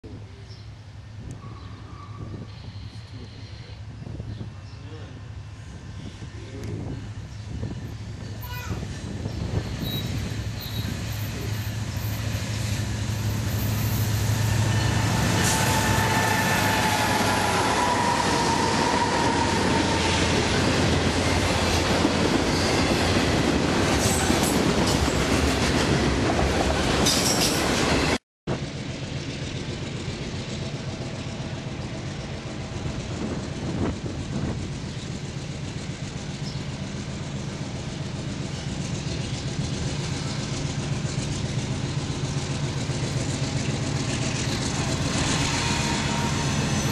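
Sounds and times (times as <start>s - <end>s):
freight train rumbling past: 0.1s - 46.9s.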